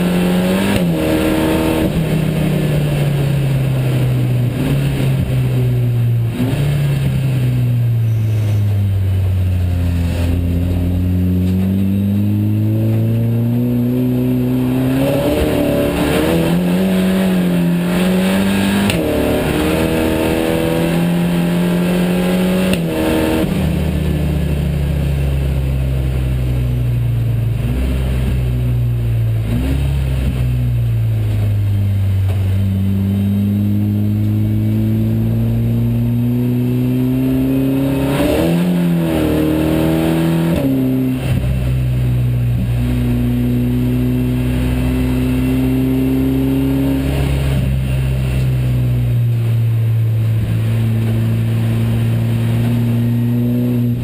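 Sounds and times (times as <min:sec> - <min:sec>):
engine throttle blips: 0:00.0 - 0:54.0
race car engine revving through gears: 0:00.0 - 0:54.0.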